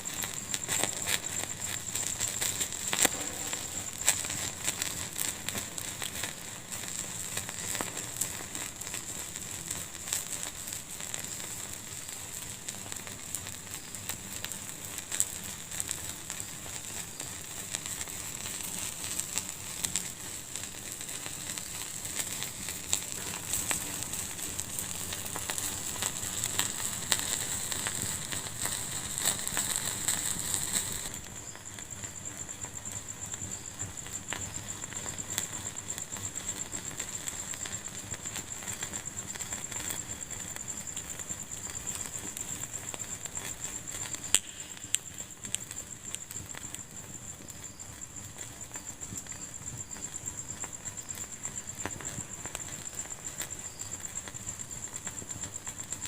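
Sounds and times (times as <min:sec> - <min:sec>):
fire hiss: 0:00.0 - 0:56.0
wood fire crackling and popping: 0:00.0 - 0:56.0.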